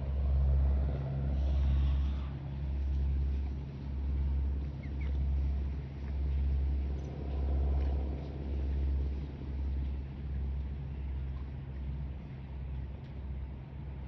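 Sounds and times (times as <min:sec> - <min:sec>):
airplane engines droning: 0:00.0 - 0:14.0.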